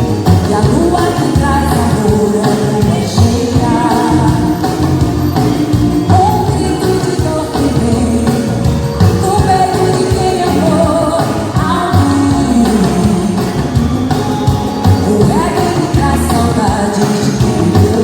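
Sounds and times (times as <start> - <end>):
upbeat pop-rock song with vocals: 0.0 - 18.0.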